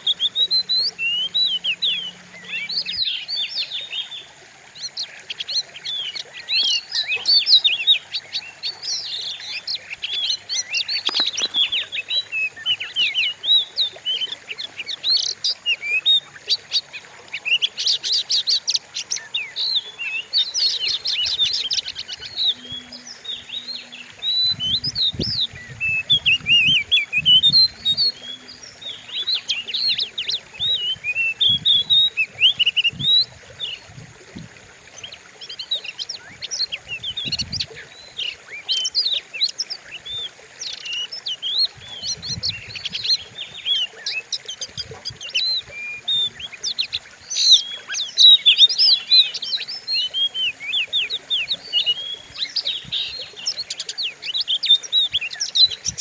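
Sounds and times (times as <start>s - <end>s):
bird song with rapid chirps: 0.0s - 56.0s.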